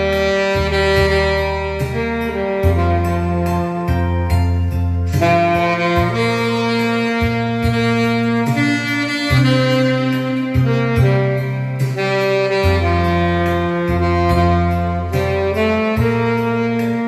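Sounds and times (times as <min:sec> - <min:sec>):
backing track with bass and beat: 0:00.0 - 0:17.0
saxophone slow melody: 0:00.0 - 0:17.0.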